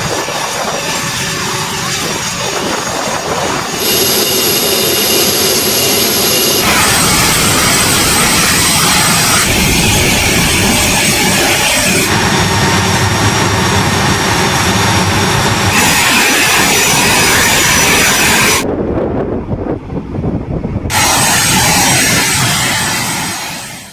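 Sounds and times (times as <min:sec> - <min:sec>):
jet engine noise: 0:00.0 - 0:23.9.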